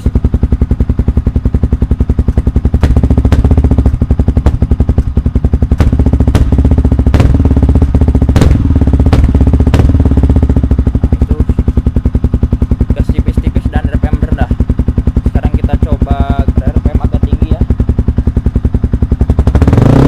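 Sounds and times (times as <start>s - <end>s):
exhaust cracks: 0.0s - 20.0s
motorcycle engine idling: 0.0s - 20.0s.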